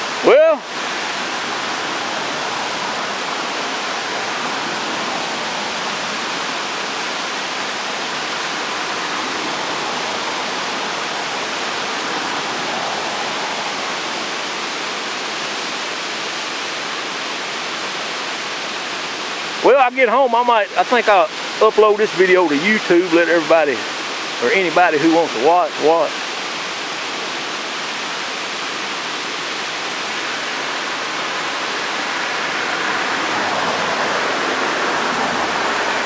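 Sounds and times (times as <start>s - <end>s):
whitewater rushing: 0.0s - 36.0s.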